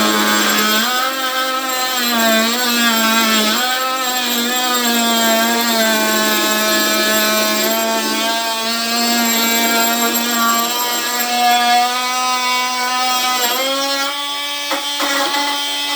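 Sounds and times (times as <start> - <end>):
oscillating tool buzzing whine: 0.0 - 15.1.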